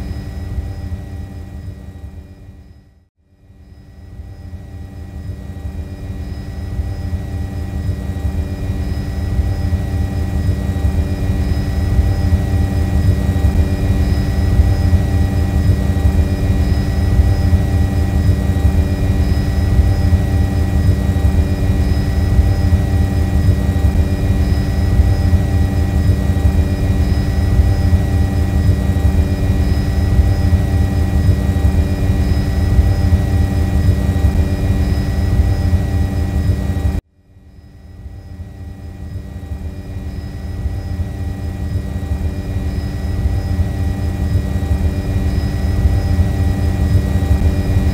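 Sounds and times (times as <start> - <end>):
drone propellers buzzing: 5.1 - 37.0, 39.0 - 47.9.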